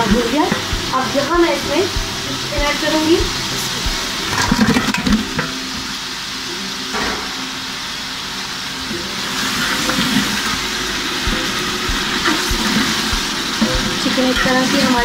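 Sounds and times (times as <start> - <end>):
food sizzling in metal pot: 0.0 - 15.0.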